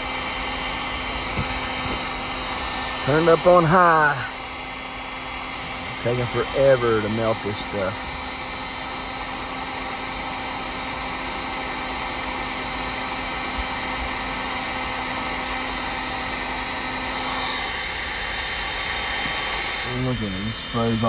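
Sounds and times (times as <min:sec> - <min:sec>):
hot-air blower running: 0:00.0 - 0:21.0.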